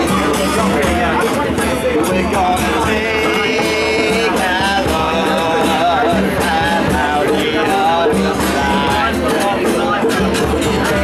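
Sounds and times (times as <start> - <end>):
acoustic guitar: 0.0 - 11.0
hand drums: 0.0 - 11.0
man singing: 0.0 - 11.0.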